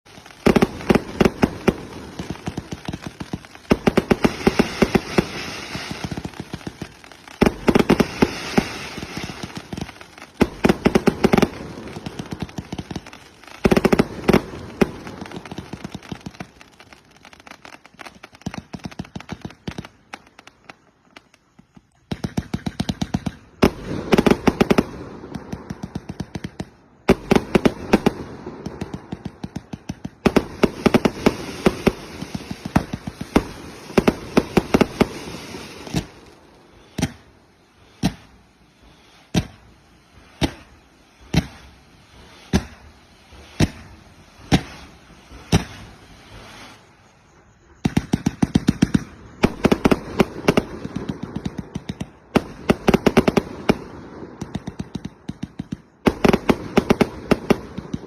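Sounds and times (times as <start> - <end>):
firecrackers crackling and banging: 0.0 - 58.0.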